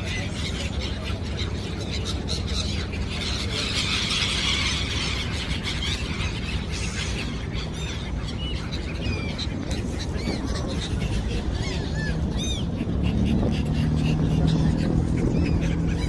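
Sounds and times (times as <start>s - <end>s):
gulls calling: 0.0s - 16.0s
steady low hum: 0.0s - 16.0s.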